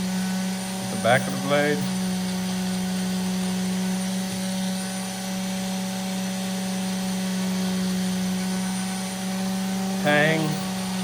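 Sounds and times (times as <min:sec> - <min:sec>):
electric power tool humming: 0:00.0 - 0:11.0.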